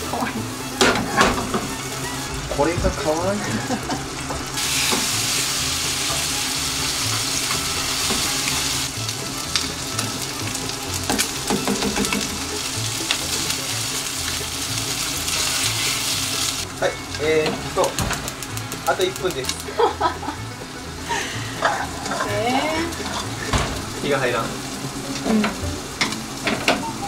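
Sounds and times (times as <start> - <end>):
utensils clicking against pans: 0.0 - 20.0, 21.6 - 27.0
chicken sizzling in a frying pan: 0.0 - 27.0.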